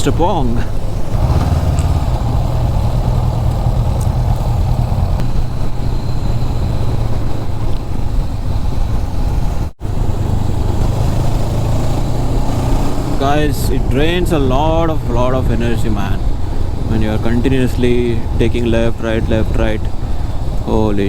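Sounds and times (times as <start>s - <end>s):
motorcycle engine running: 0.0s - 21.0s
wind on microphone: 0.5s - 21.0s.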